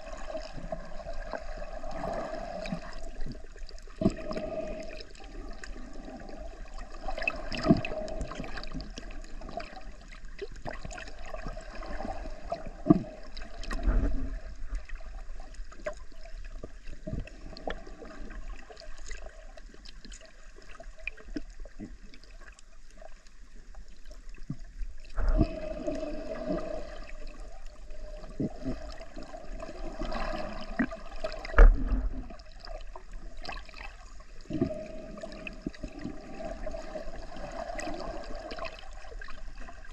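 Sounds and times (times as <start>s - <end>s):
underwater water noise: 0.0s - 39.9s.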